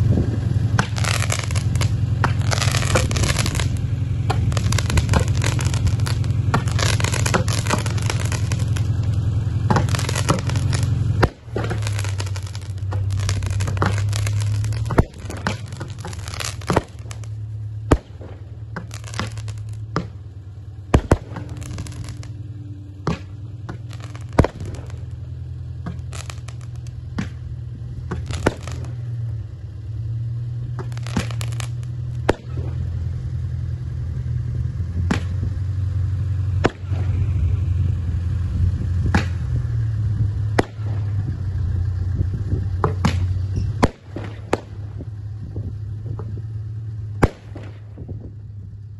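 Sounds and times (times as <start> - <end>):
fireworks bangs and pops: 0.0 - 48.6
steady low hum: 0.0 - 48.9.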